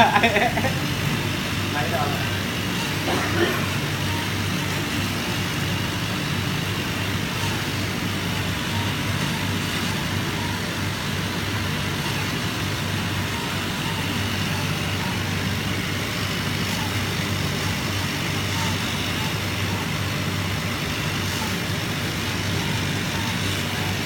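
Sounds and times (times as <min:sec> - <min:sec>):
machine humming and hissing: 0:00.0 - 0:24.0.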